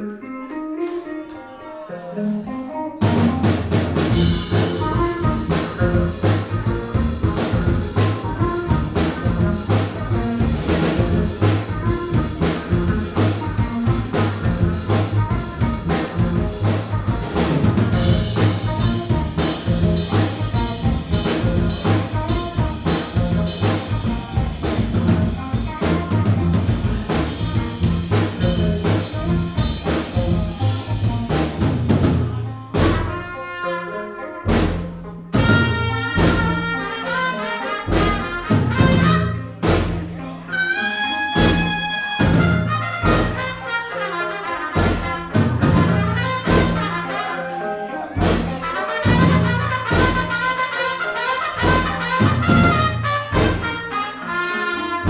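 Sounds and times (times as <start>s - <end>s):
bass: 0.0s - 55.0s
drums: 0.0s - 55.0s
live band playing: 0.0s - 55.0s.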